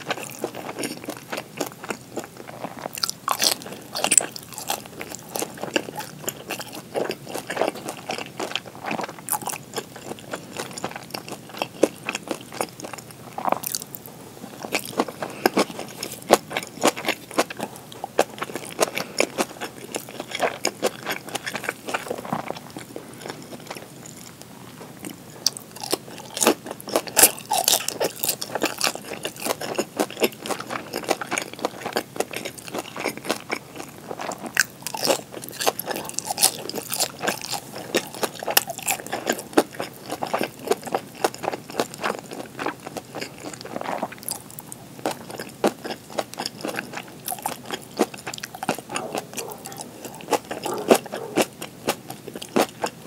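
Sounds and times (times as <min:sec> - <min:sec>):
chewing crunchy food: 0:00.0 - 0:53.0.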